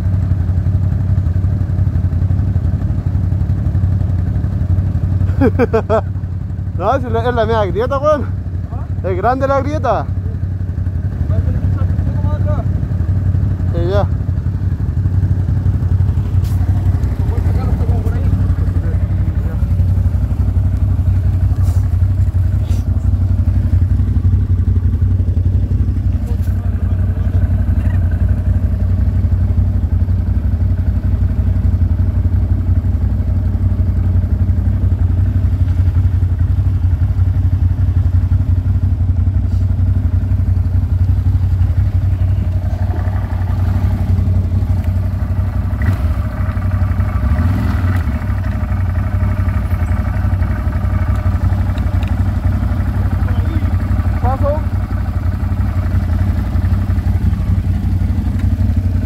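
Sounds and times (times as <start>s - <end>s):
atv engine droning: 0.0s - 59.0s.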